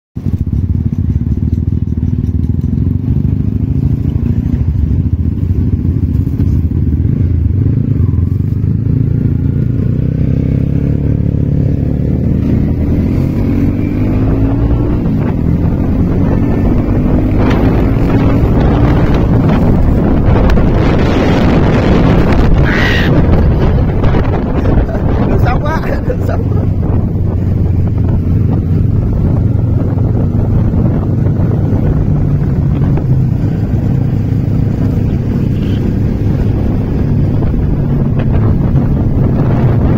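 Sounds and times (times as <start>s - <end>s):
motorcycle engine accelerating: 0.2s - 39.9s
wind noise on microphone: 0.2s - 39.9s.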